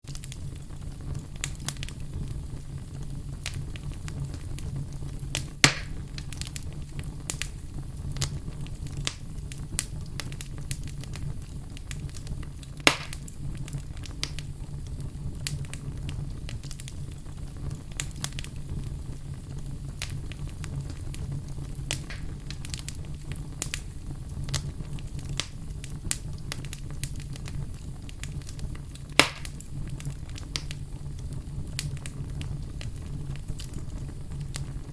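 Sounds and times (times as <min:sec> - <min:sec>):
fire crackling: 0:00.0 - 0:34.9.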